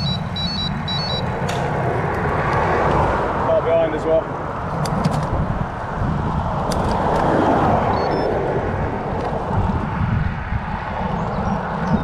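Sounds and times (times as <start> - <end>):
road noise: 0.0 - 12.0
wind buffeting microphone: 0.0 - 12.0.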